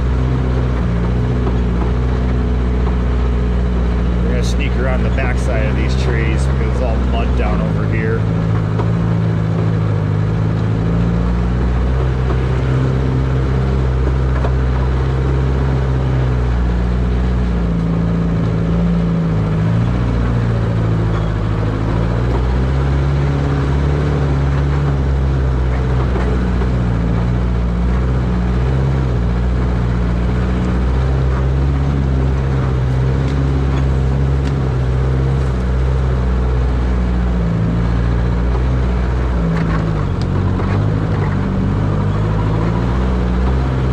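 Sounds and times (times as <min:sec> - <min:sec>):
engine running at low revs: 0:00.0 - 0:43.9.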